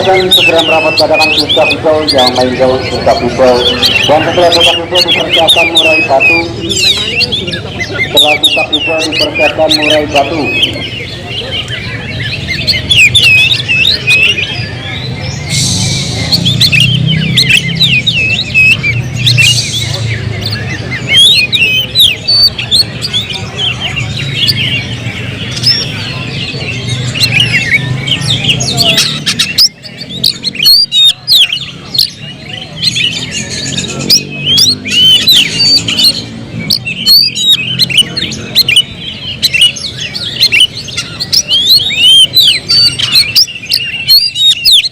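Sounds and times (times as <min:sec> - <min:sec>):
songbirds singing and chirping: 0:00.0 - 0:44.9.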